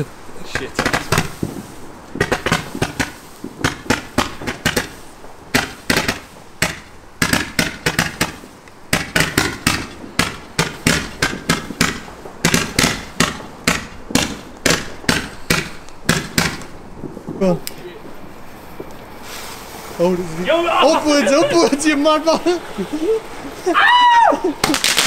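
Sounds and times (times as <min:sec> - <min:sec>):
fireworks banging: 0:00.0 - 0:25.0.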